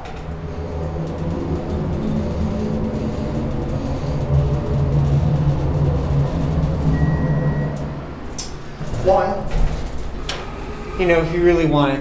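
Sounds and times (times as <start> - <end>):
elevator drive humming: 0.0 - 12.0.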